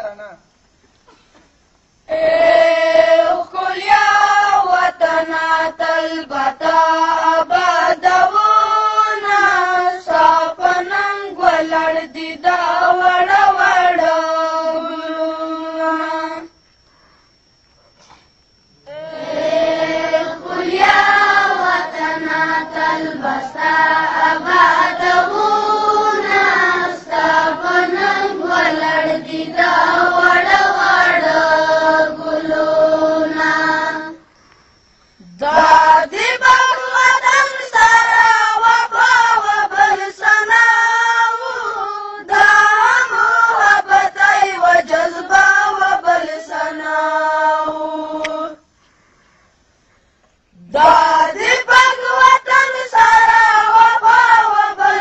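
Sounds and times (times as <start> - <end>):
high voice singing unaccompanied: 2.1 - 16.6, 18.8 - 34.3, 35.2 - 48.7, 50.6 - 55.0.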